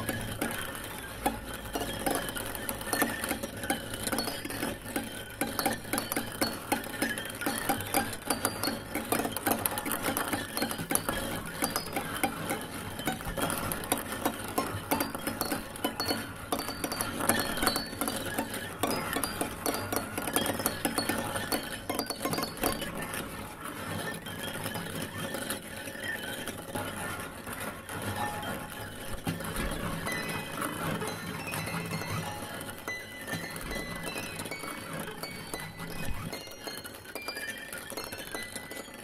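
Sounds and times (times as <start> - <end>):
rapid clicking and clattering: 0.0 - 39.0.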